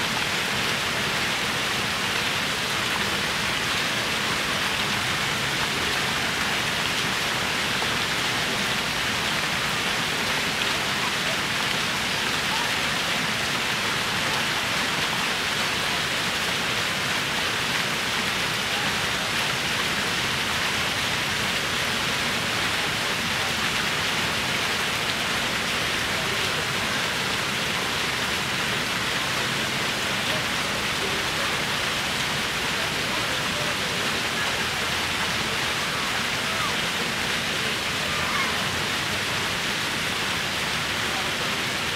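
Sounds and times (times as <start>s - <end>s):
fountain water splashing into pool: 0.0s - 41.9s.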